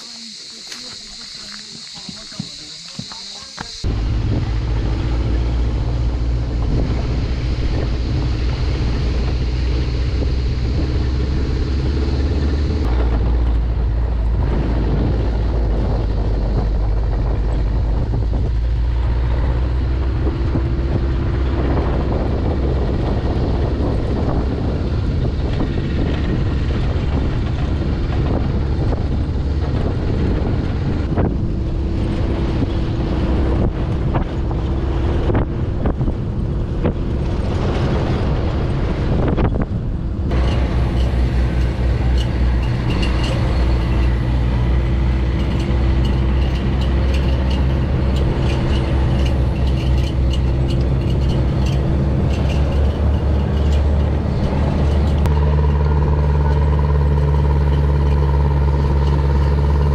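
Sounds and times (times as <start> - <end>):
jeep engine running: 0.0 - 59.9
wind buffeting microphone: 0.3 - 59.9.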